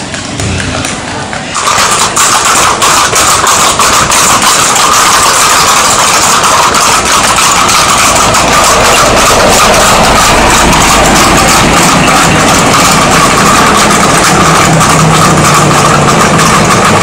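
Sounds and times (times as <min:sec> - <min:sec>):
hooves clattering on cobblestones: 0:00.0 - 0:17.0
loud steady drone: 0:00.0 - 0:17.0.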